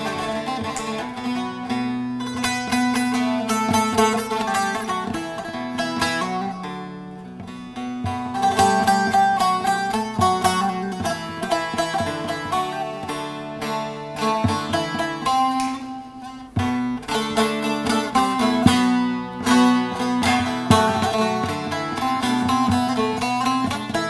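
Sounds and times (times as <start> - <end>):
plucked long-necked lute: 0.0 - 24.0.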